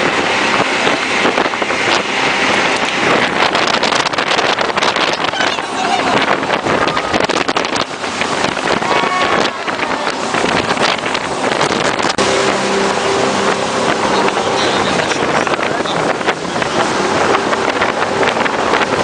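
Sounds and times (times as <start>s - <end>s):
jet boat engine: 0.0s - 19.0s
rushing water: 0.0s - 19.0s
wind buffeting microphone: 0.0s - 19.0s.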